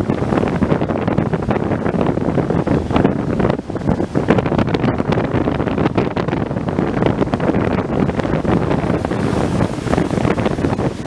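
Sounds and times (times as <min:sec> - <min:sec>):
heavy surf breaking: 0:00.0 - 0:11.0
wind buffeting microphone: 0:00.0 - 0:11.0.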